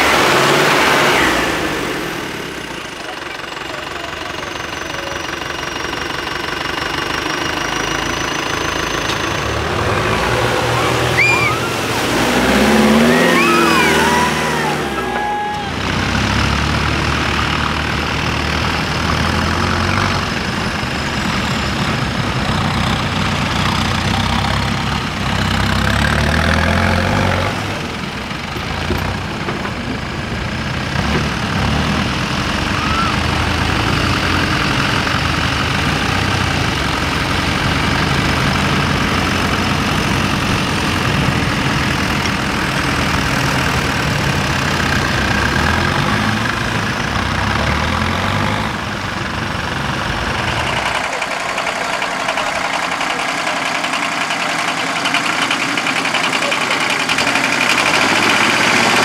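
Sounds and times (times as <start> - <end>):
tractor engines idling: 0.0 - 59.0.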